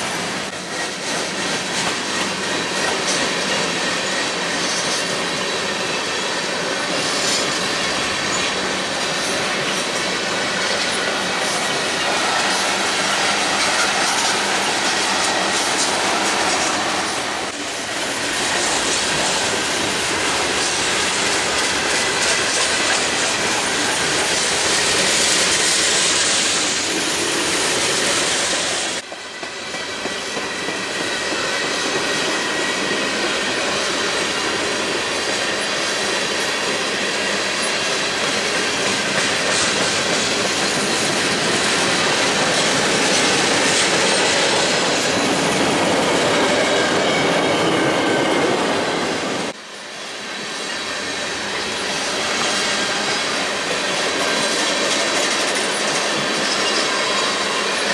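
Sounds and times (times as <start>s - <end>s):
clickety-clack over rail joints: 0.0s - 49.6s, 50.6s - 57.9s
train wheel and rail rumble: 0.0s - 57.9s.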